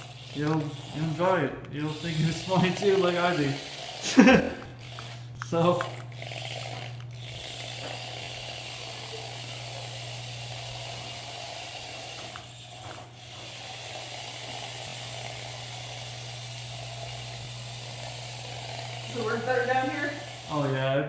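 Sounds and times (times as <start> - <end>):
ride-on toy vehicle humming: 0.0 - 21.0.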